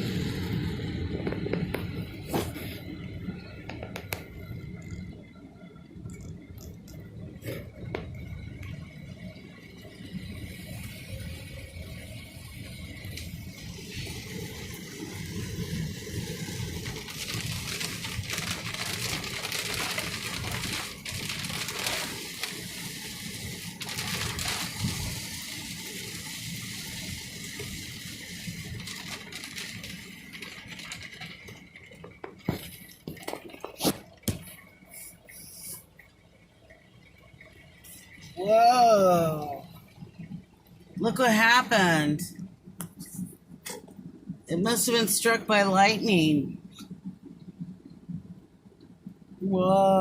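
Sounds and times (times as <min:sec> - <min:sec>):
heavy rain on a car: 0:00.0 - 0:50.0.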